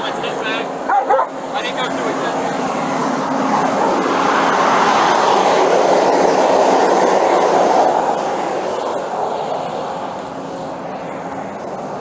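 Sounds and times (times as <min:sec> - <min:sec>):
fire engine rumbling: 0:00.0 - 0:12.0.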